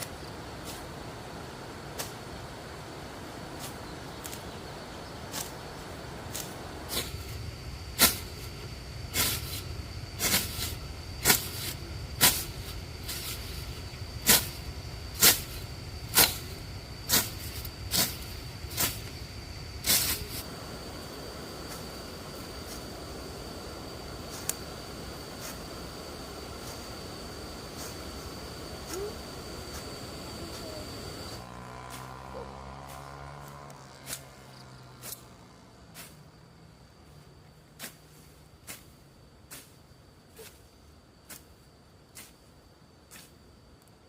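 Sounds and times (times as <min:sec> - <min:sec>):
high-pitched insect drone: 0:03.6 - 0:43.7.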